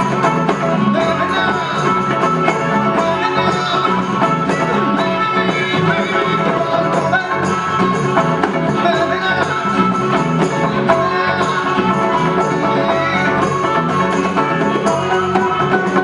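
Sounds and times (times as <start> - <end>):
hand drums: 0.0 - 16.0
harmonica melody: 0.0 - 16.0
strummed guitars: 0.0 - 16.0.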